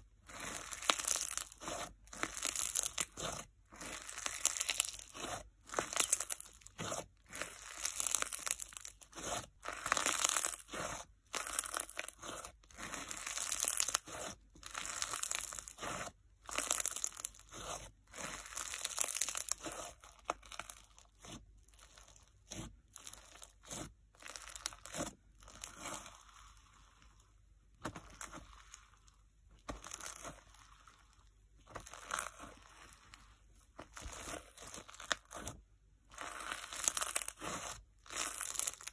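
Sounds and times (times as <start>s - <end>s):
slime crackling and crunching: 0.0s - 38.9s.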